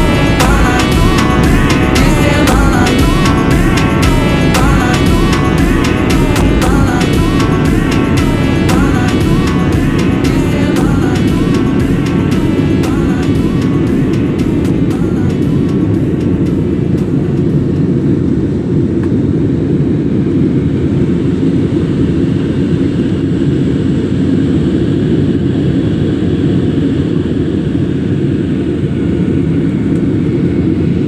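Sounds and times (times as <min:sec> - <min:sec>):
aircraft engines rumbling: 0:00.0 - 0:31.0
faint high whine: 0:00.0 - 0:31.0.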